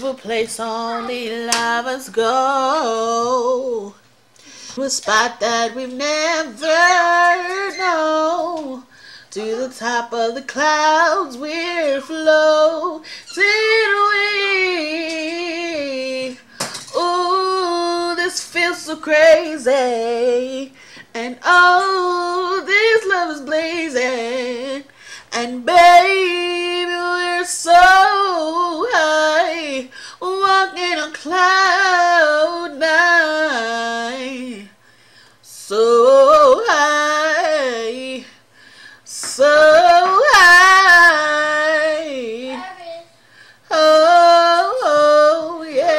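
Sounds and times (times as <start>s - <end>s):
person singing unaccompanied: 0.0s - 4.1s, 4.7s - 34.8s, 35.5s - 38.4s, 39.1s - 45.9s.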